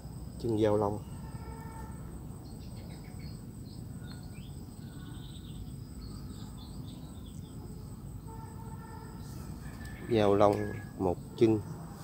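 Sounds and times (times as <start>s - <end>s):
faint insect chirps: 0.0s - 12.0s
insects droning: 0.0s - 12.0s.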